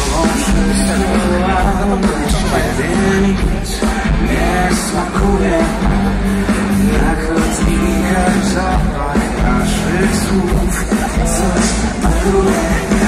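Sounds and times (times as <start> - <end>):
live band playing pop-rock: 0.0 - 13.0
man singing lead vocal: 0.0 - 13.0.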